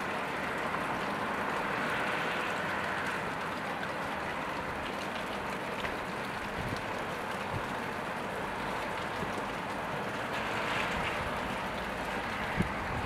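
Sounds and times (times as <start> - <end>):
car tyres swishing on wet road: 0.0 - 13.0
rain falling on wet street: 0.0 - 13.0.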